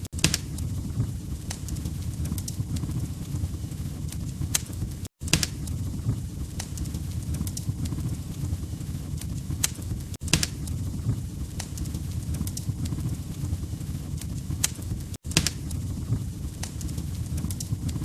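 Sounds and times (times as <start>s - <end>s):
fire pops and crackles: 0.0s - 18.0s
low rumble of burning logs: 0.0s - 18.0s.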